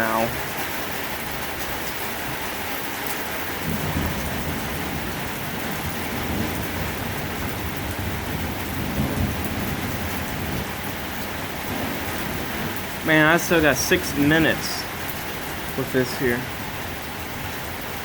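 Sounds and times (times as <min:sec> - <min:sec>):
heavy rain pouring: 0:00.0 - 0:18.0
low rolling thunder: 0:03.3 - 0:18.0.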